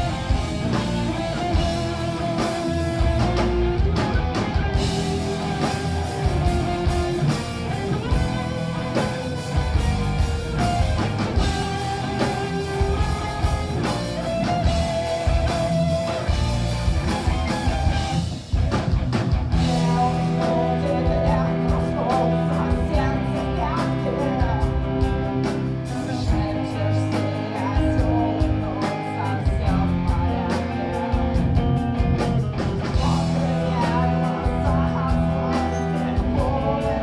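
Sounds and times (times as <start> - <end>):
rock band playing live: 0.0 - 37.0.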